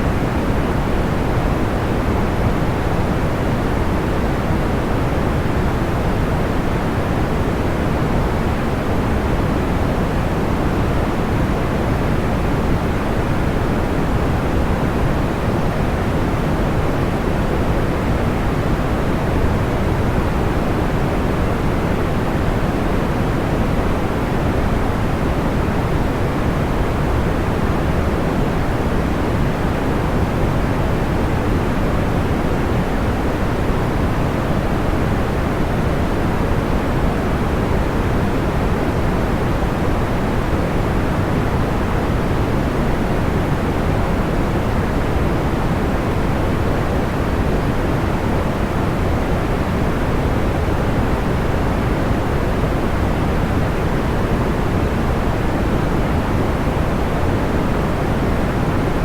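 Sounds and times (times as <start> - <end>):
soft white noise hiss: 0.0 - 59.0.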